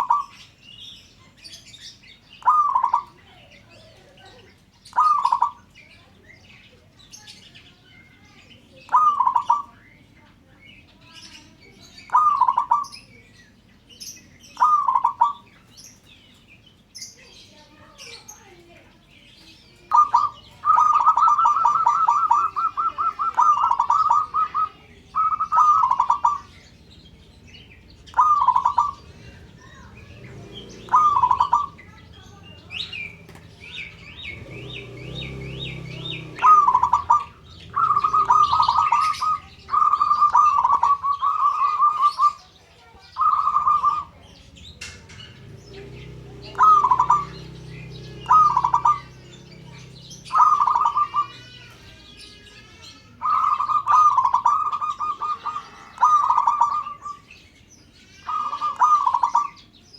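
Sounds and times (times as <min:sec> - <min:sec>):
dove trilled cooing: 0:00.0 - 0:00.6, 0:01.4 - 0:06.2, 0:08.7 - 0:09.9, 0:11.1 - 0:13.4, 0:14.5 - 0:15.9, 0:19.3 - 0:52.3, 0:53.2 - 0:57.6, 0:58.2 - 0:59.9.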